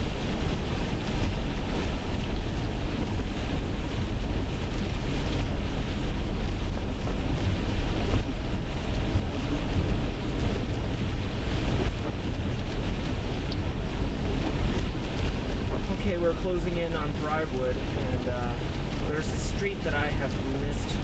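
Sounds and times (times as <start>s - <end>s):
car road noise: 0.0s - 21.0s
tyres on wet road: 0.0s - 21.0s.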